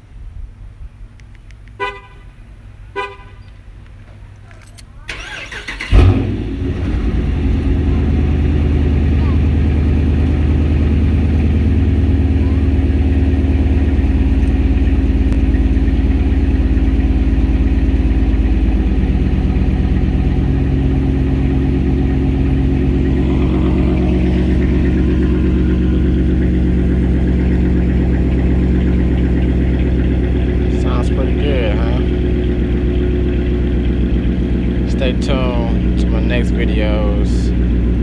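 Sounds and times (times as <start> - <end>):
car engine idling: 1.0 - 38.0.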